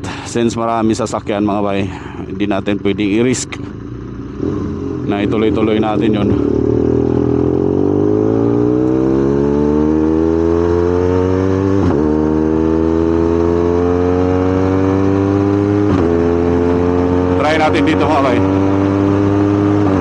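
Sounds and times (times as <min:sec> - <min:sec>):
motorcycle engine accelerating: 0:01.2 - 0:20.0.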